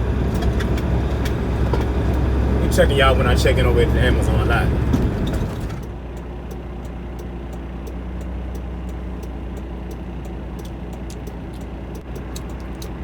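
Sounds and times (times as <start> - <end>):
diesel truck engine droning: 0.0 - 13.0
faint regular ticking: 0.3 - 13.0.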